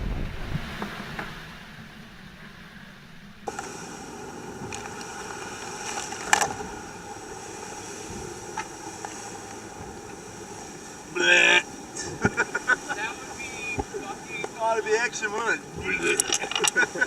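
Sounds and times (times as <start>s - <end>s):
water and wind rushing: 0.0s - 17.0s.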